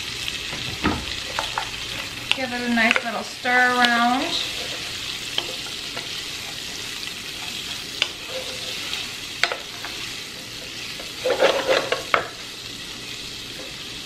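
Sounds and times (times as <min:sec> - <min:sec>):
meat and onion sizzling in a pan: 0:00.0 - 0:14.0.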